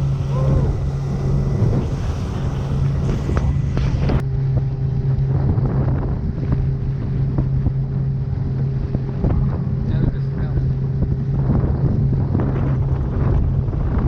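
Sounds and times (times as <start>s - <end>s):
motorboat engine droning: 0.0s - 14.0s
wind buffeting microphone: 0.0s - 14.0s.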